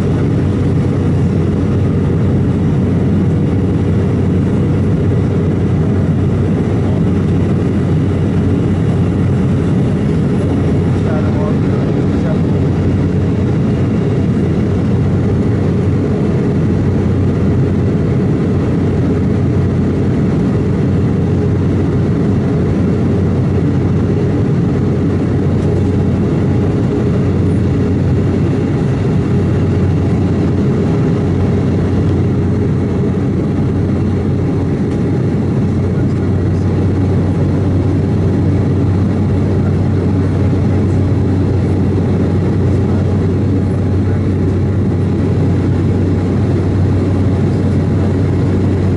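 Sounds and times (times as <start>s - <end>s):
airliner cabin drone: 0.0s - 48.9s
constant low hum: 0.0s - 48.9s.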